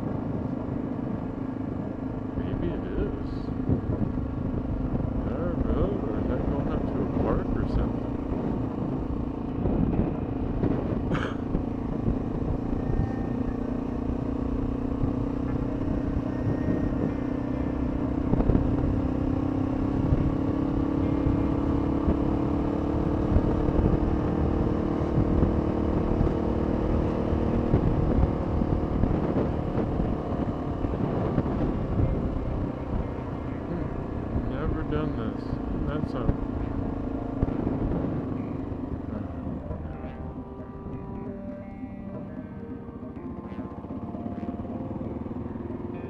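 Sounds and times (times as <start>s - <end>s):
motorcycle engine running: 0.0s - 46.0s
wind and road rumble: 0.0s - 46.0s.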